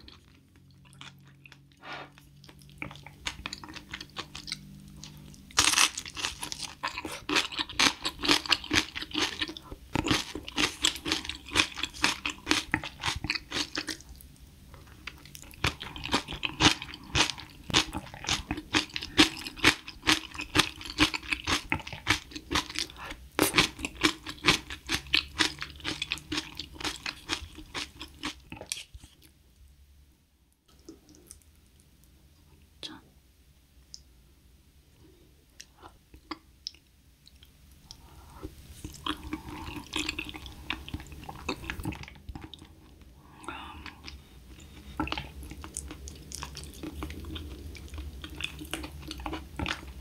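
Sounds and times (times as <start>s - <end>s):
crunchy chewing: 0.0s - 14.2s, 14.8s - 29.3s, 35.6s - 42.7s, 43.7s - 50.0s.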